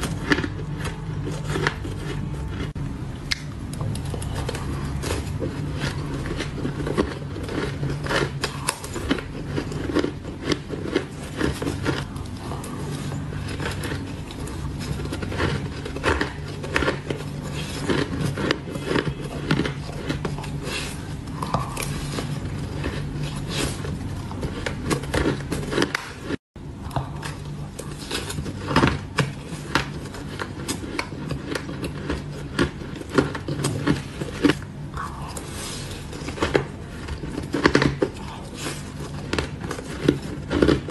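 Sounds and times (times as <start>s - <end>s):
crunching shaved ice: 0.0s - 26.4s, 27.2s - 40.9s.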